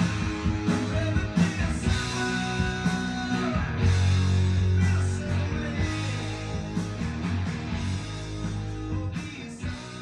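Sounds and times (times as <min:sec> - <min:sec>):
music with guitar and bass: 0:00.0 - 0:10.0.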